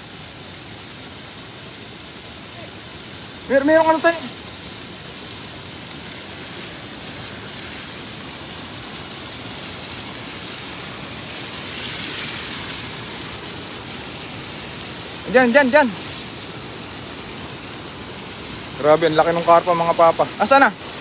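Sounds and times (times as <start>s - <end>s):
louder higher hiss: 0.0s - 21.0s
river water rushing over bed: 0.0s - 21.0s.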